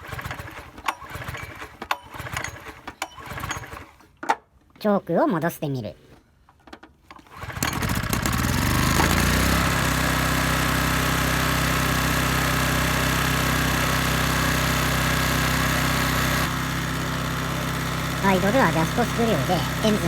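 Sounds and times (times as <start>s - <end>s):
generator engine starting and running: 0.0s - 4.1s, 7.2s - 20.0s.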